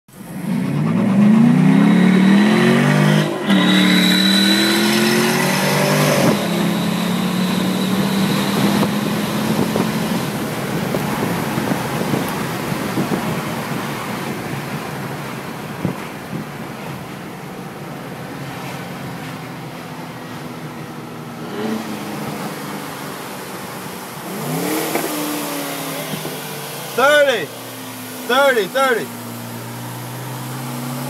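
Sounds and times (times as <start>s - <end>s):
car engine accelerating: 0.1s - 17.1s, 17.7s - 31.0s
wind and road noise: 0.1s - 31.0s.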